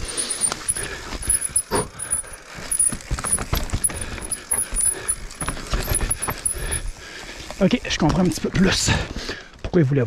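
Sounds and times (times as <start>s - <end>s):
mountain bike rattling over rocks: 0.0s - 10.0s.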